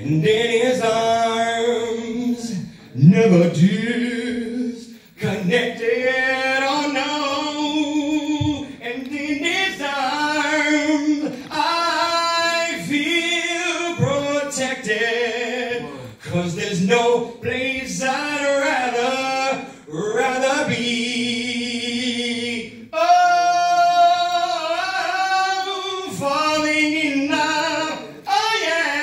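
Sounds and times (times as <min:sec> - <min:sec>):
man singing gospel song: 0:00.0 - 0:29.0.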